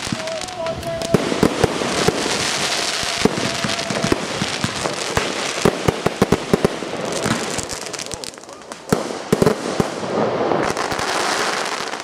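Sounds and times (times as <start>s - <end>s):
crackle of firework stars: 0.0s - 12.0s
firework shells bursting: 0.0s - 12.0s.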